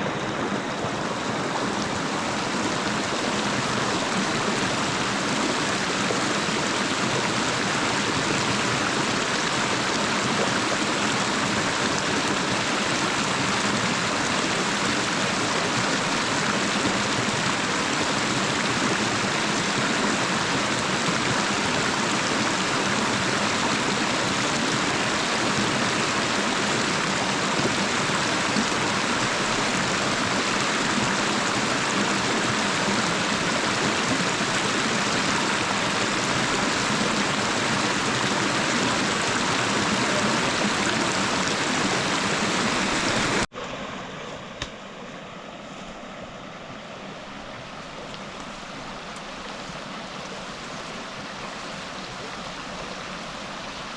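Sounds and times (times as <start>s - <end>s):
river water flowing: 0.0s - 53.9s.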